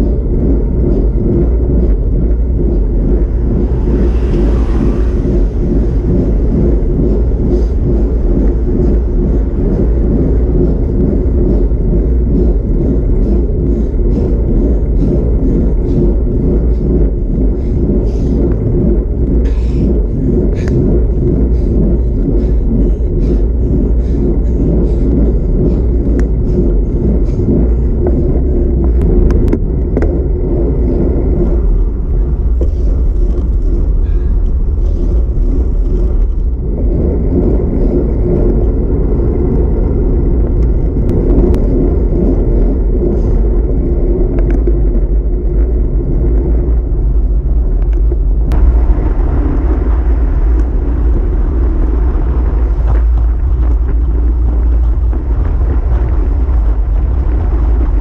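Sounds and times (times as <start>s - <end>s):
wind buffeting microphone: 0.0s - 58.0s
tyre noise on asphalt: 0.2s - 58.0s.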